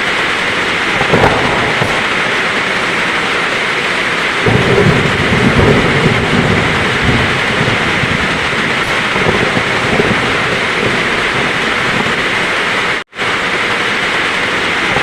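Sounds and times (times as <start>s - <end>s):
heavy rain falling: 0.0s - 15.0s
low thunder rumble: 0.0s - 15.0s.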